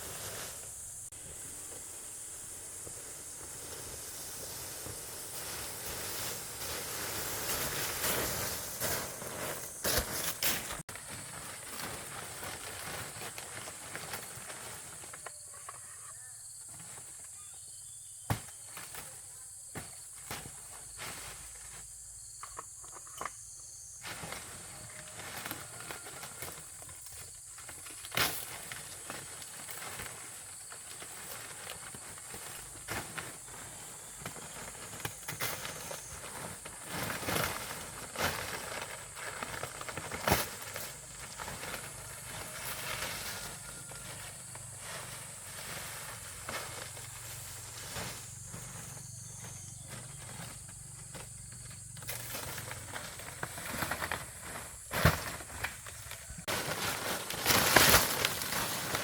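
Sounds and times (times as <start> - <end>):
rustling and crackles: 0.0 - 15.9, 18.4 - 23.3, 24.0 - 59.0.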